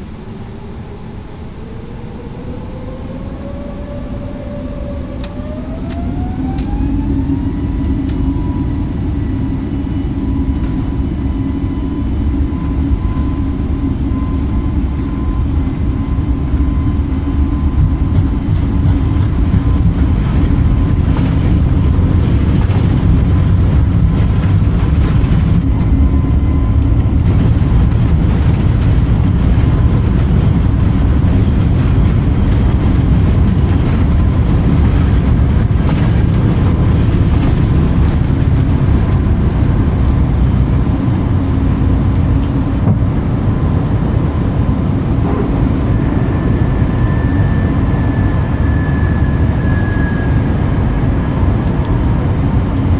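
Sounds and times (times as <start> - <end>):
airplane engine rumble in cabin: 0.0 - 52.9.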